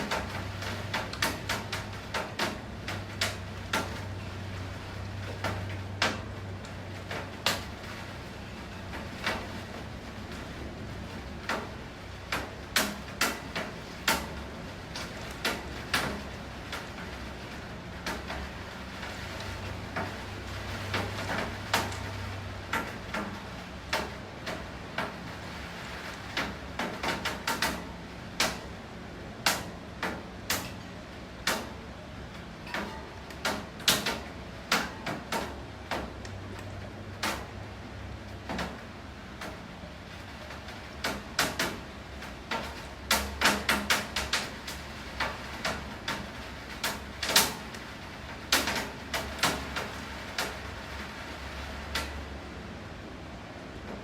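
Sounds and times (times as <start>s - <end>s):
raindrops tapping hard surface: 0.0s - 52.4s
rain falling: 0.0s - 54.0s.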